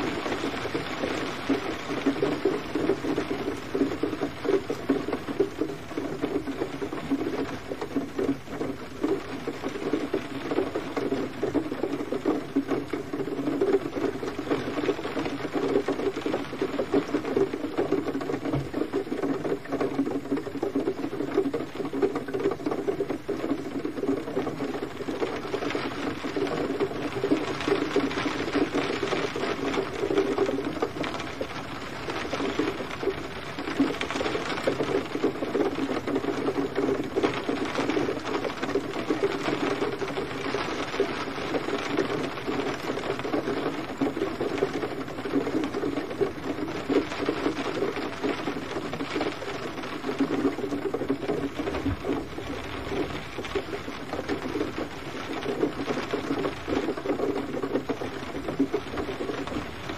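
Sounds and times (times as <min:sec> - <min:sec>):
gentle rain pattering: 0:00.0 - 0:59.9.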